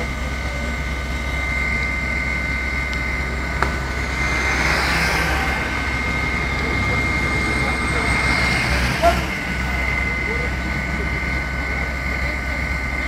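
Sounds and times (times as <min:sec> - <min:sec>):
engine drone: 0:00.0 - 0:13.0
high even whine: 0:00.0 - 0:13.0.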